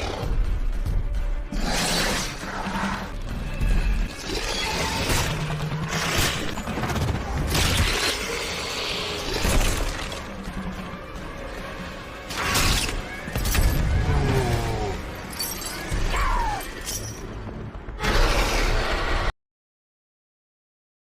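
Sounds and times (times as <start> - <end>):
documentary music: 0.0 - 18.9.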